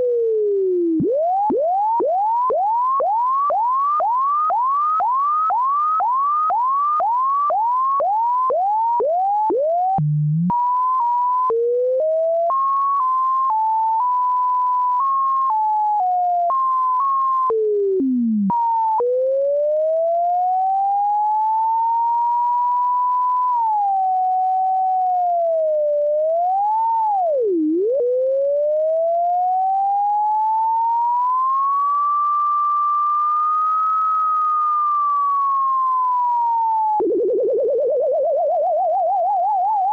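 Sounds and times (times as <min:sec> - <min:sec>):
synthesized sine tone sweeping: 0:00.0 - 0:39.9.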